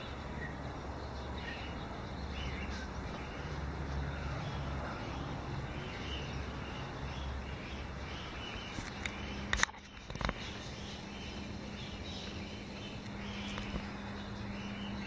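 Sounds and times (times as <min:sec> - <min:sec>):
distant bird calls: 0:00.0 - 0:15.0.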